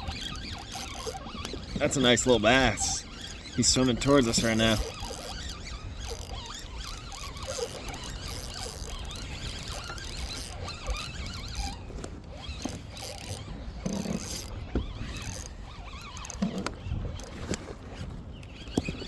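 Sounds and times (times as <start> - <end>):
fishing reel being cranked: 0.0 - 19.0.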